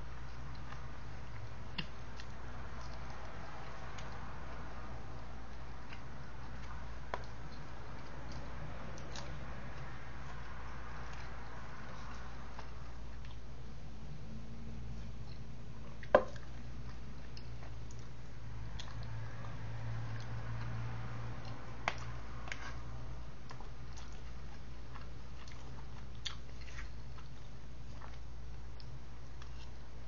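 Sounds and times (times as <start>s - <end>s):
person chewing: 0.0s - 13.6s, 14.8s - 30.0s
steady low hum: 0.0s - 30.0s.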